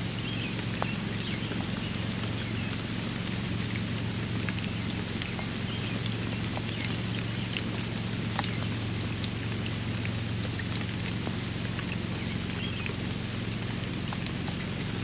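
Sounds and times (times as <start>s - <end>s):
rain hiss: 0.0s - 15.0s
raindrops plinking on surfaces: 0.0s - 15.0s.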